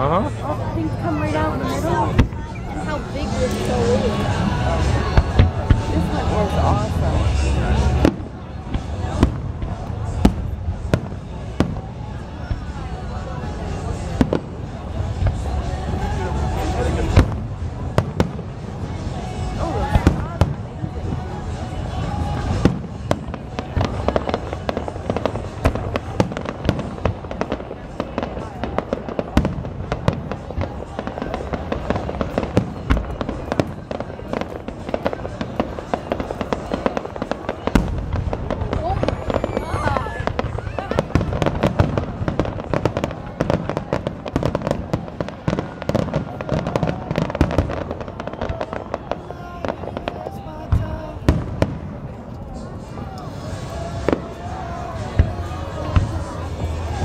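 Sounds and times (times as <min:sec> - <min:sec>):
fireworks bangs and pops: 0:00.1 - 0:57.0.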